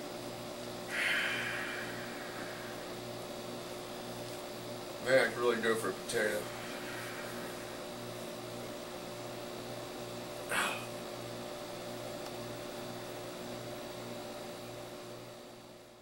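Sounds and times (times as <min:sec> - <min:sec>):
pulsing electrical hum: 0:00.0 - 0:16.0.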